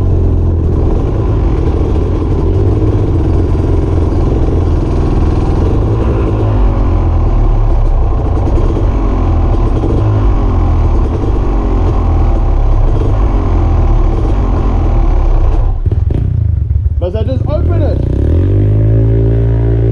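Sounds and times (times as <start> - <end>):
off-road vehicle engine revving: 0.0 - 19.9.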